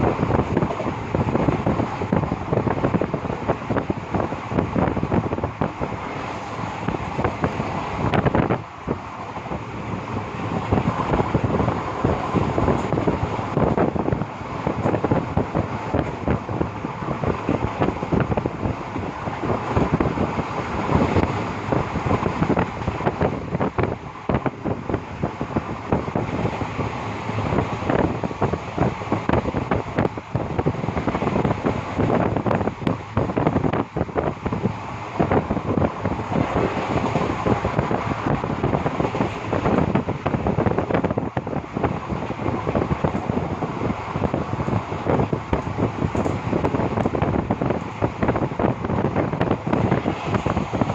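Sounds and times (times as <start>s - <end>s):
train running noise: 0.0s - 50.9s
wind buffeting microphone: 0.0s - 50.9s.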